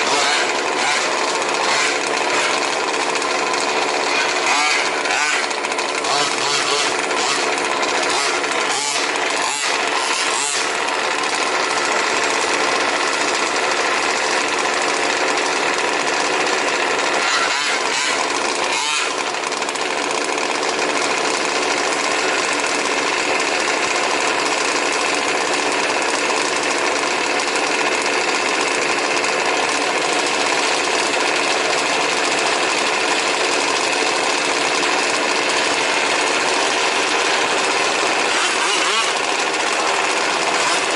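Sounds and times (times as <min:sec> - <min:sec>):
small two-stroke engines buzzing: 0:00.0 - 0:40.9.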